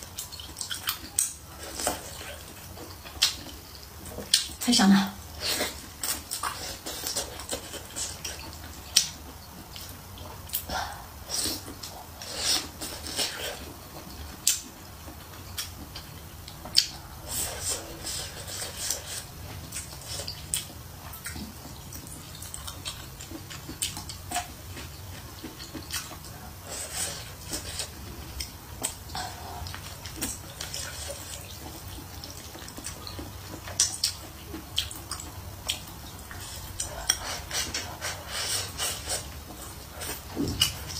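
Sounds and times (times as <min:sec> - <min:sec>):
wet chewing and slurping: 0:00.0 - 0:40.9.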